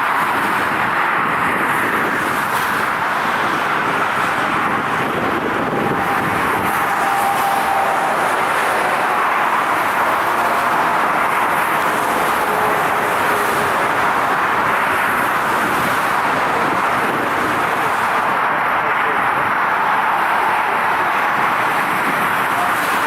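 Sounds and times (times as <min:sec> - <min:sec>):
jet engines rushing with whine: 0:00.0 - 0:23.0.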